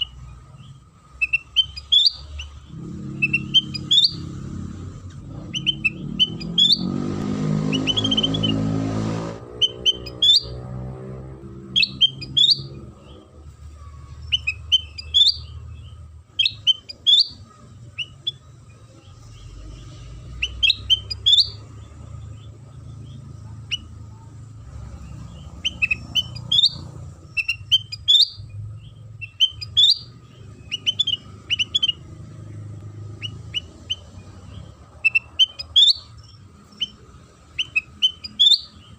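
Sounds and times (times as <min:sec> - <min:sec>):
songbird chirping: 0:00.0 - 0:38.9.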